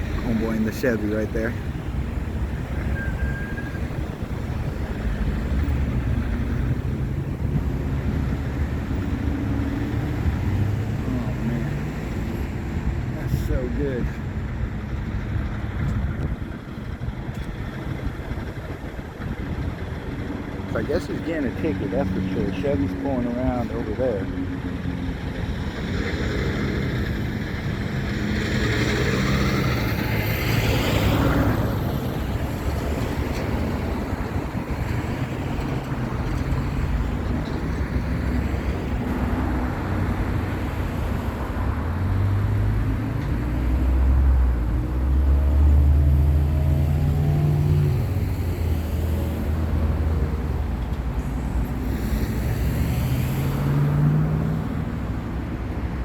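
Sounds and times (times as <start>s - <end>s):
cars passing: 0.0s - 56.0s
deep engine passing: 0.0s - 56.0s
tyre and road rush: 0.0s - 56.0s.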